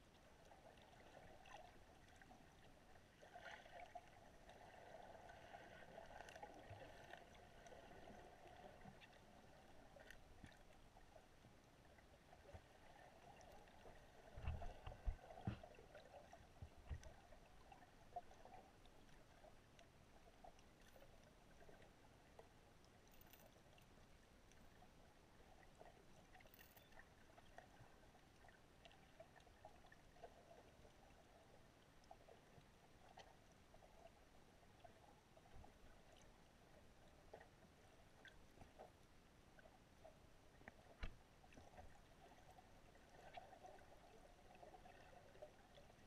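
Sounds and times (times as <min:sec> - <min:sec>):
faint underwater noise: 0:00.0 - 0:46.0
faint clicks and ticks: 0:03.4 - 0:24.9, 0:25.6 - 0:34.2, 0:37.0 - 0:46.0.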